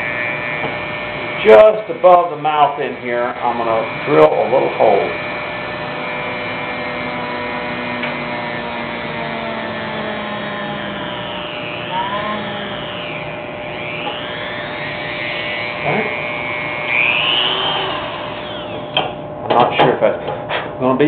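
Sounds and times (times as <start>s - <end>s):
rotary tool motor whine: 0.0s - 19.3s.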